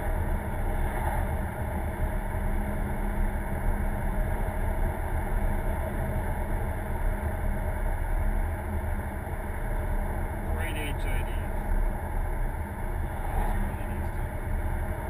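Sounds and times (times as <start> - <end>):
car engine and tyre drone: 0.0 - 15.0.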